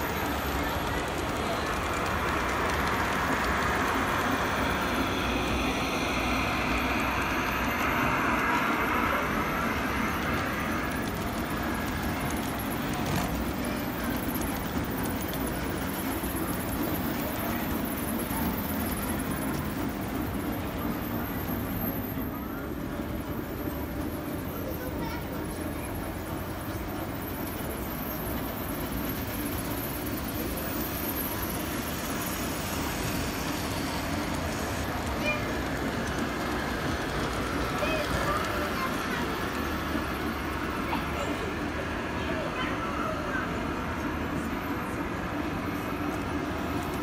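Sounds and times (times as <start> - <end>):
model train wheels rattling on rails: 0.0 - 47.0.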